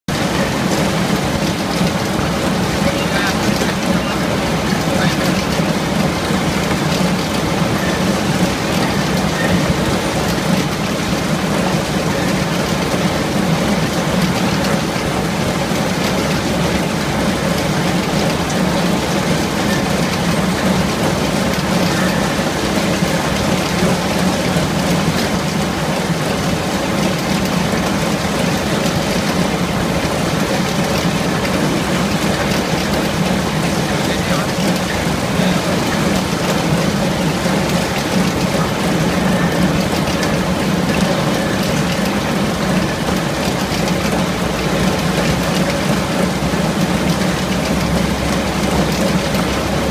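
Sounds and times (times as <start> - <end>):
dense rattle of rollers and discs: 0.1 - 49.9.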